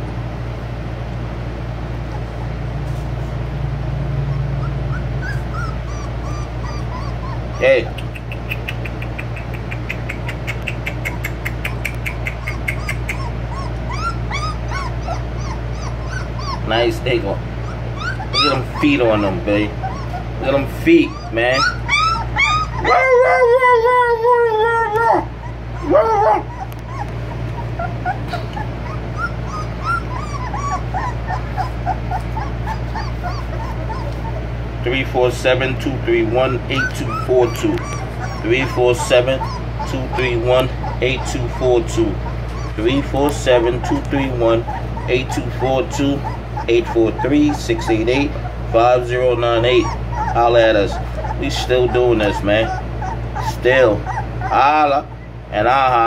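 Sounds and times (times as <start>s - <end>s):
steady low hum: 0.0s - 56.0s
puppies whimpering: 1.8s - 56.0s.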